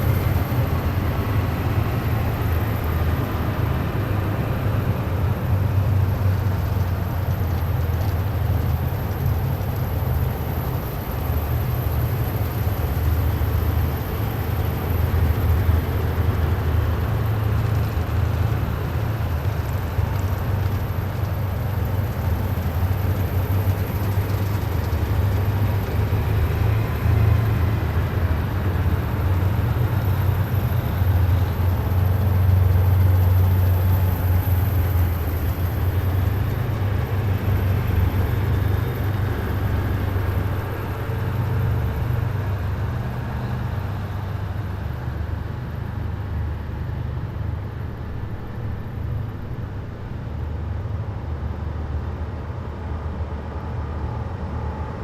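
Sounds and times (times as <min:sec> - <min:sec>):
heavy vehicles engine rumble: 0:00.0 - 0:55.0
road noise: 0:00.0 - 0:55.0.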